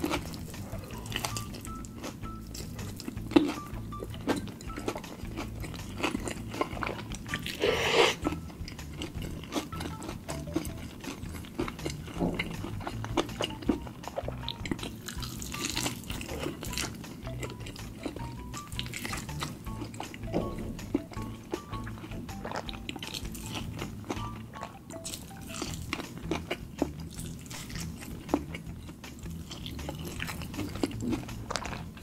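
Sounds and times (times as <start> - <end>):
chewing and biting fried chicken: 0.0 - 32.0
quiet background music: 0.0 - 32.0.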